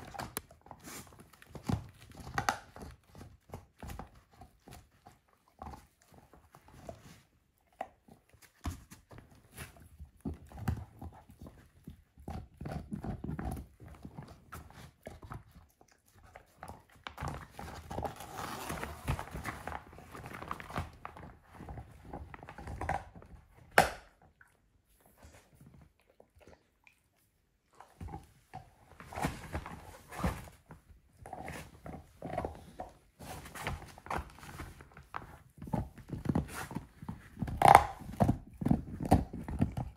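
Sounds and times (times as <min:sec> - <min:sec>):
dog gnawing a bone: 0:00.0 - 0:39.9.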